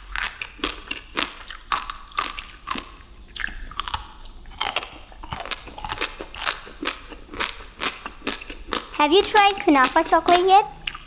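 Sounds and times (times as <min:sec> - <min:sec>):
crunchy bites and chewing: 0:00.0 - 0:11.0.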